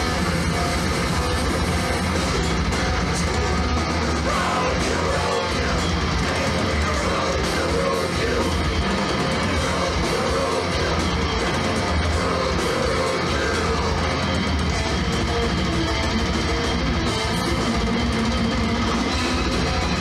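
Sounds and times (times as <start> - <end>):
distorted electric guitar: 0.0 - 20.0
drums: 0.0 - 20.0.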